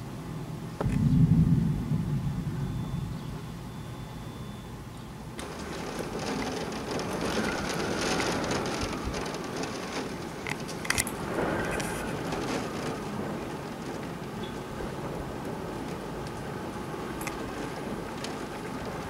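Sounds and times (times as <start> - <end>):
heavy rain pouring: 0.8 - 19.0.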